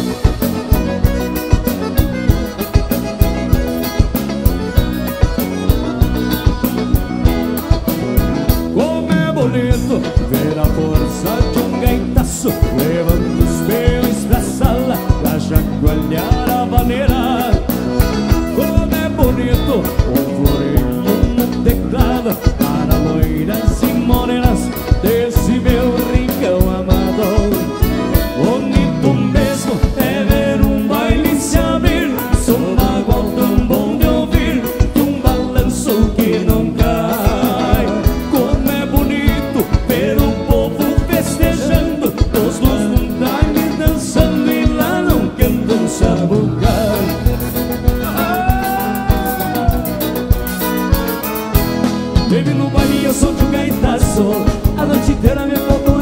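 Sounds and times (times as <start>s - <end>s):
live dance band music: 0.0s - 56.0s.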